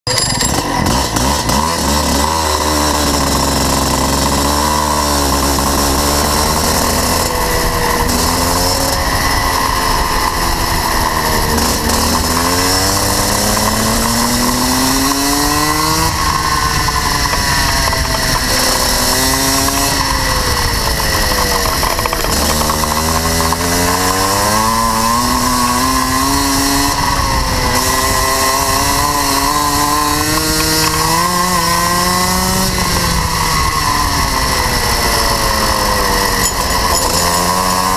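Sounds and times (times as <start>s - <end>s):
kart engine accelerating: 0.1s - 37.9s.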